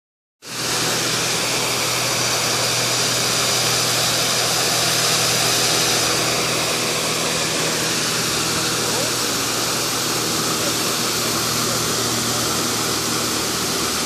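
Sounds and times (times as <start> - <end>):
small waterfall rushing into pond: 0.4 - 14.0.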